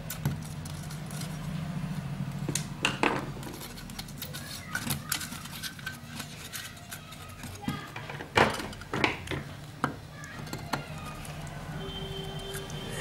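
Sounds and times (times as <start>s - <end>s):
metal parts clicking and scraping: 0.0s - 13.0s.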